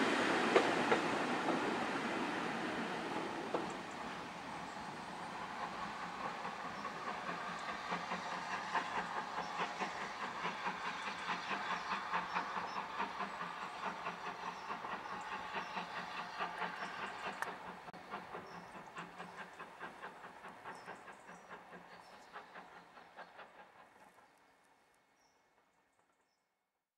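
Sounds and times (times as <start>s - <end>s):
steam hiss: 0.0s - 24.0s
steam train beats: 0.0s - 24.2s.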